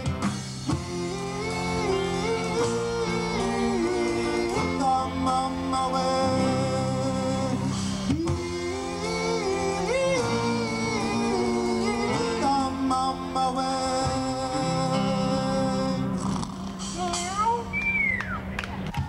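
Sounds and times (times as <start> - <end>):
electric bass: 0.0 - 18.9
electric guitar: 0.0 - 19.0
man singing long held notes: 0.7 - 17.1.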